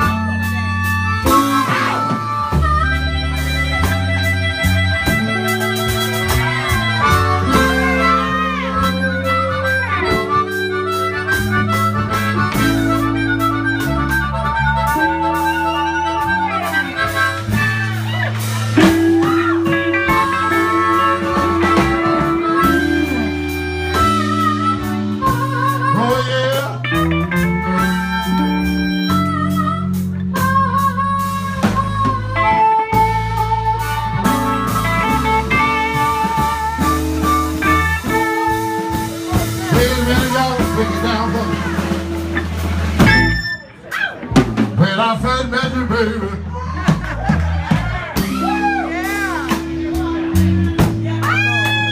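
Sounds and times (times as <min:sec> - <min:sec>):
harmonica bent notes: 0:00.0 - 0:46.5
slow blues band: 0:00.0 - 0:51.9.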